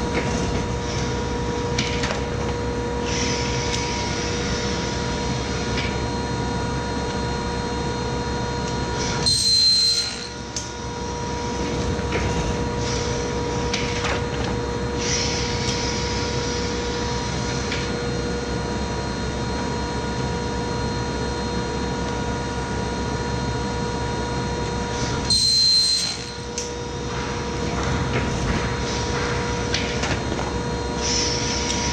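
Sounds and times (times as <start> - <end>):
binding machine motor hum and whine: 0.0 - 31.9.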